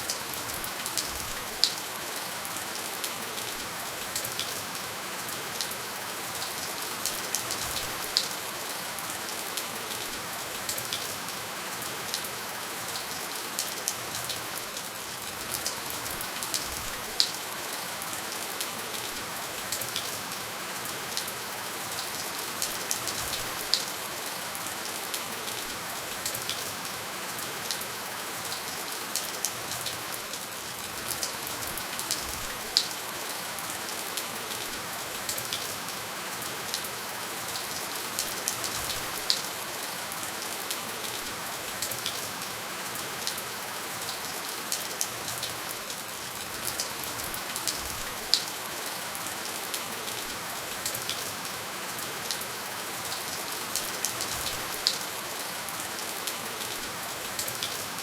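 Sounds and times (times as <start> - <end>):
gentle rainfall hiss: 0.0 - 58.0.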